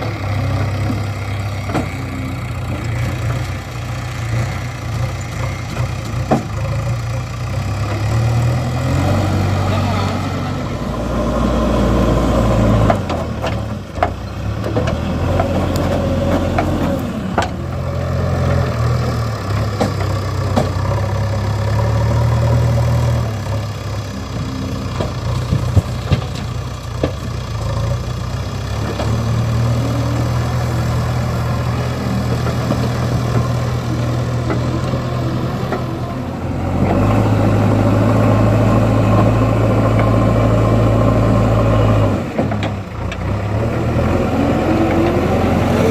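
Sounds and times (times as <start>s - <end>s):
backhoe diesel engine revving: 0.0s - 45.9s.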